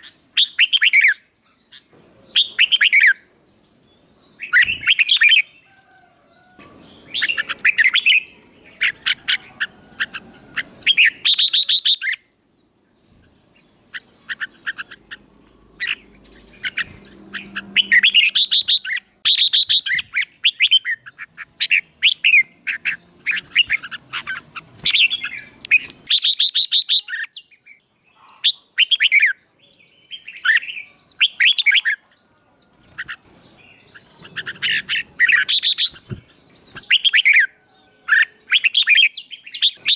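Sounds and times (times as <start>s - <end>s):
songbird chattering and trilling: 0.0s - 39.9s.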